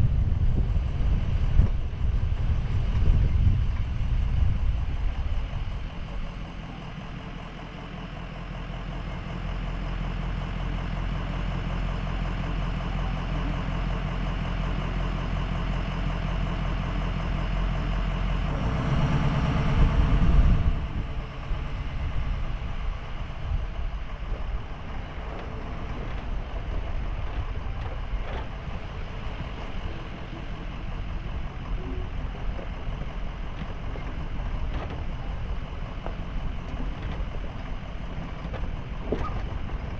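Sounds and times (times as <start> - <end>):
camper van engine driving: 0.0 - 39.9.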